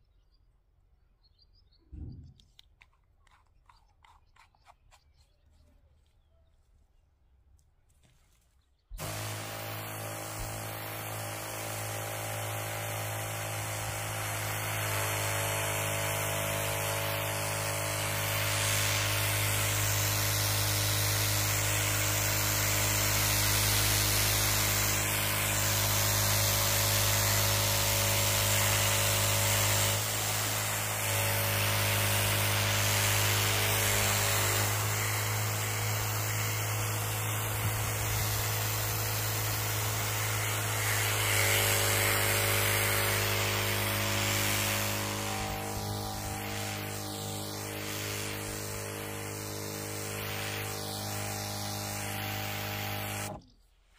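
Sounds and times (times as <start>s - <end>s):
electric pump humming: 9.0s - 53.4s
water spraying from nozzle: 9.0s - 53.4s.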